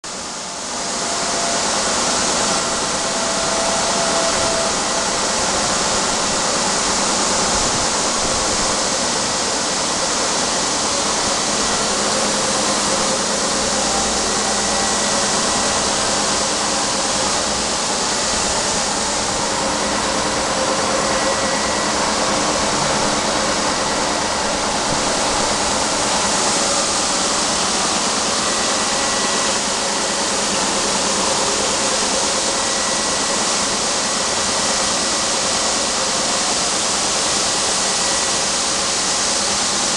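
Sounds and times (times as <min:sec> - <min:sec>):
printing machine whirring: 0:00.1 - 0:39.9.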